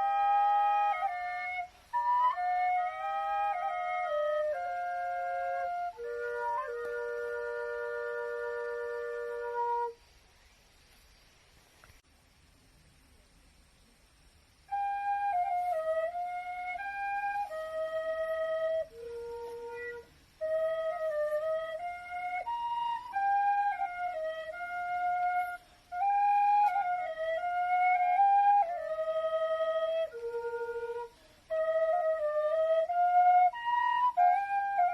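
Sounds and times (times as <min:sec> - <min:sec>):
wooden flute slow melody: 0:00.0 - 0:10.1, 0:14.6 - 0:34.9.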